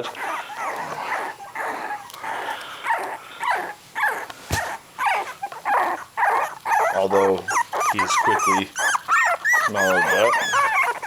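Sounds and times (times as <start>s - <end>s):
puppies squealing and whimpering: 0.0s - 11.0s.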